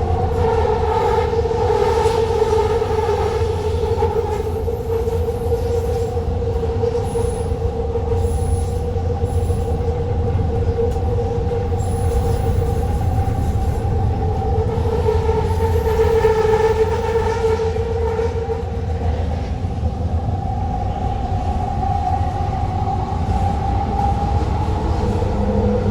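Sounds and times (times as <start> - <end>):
train rumble: 0.0 - 25.9
two-toned train whine: 0.0 - 25.9.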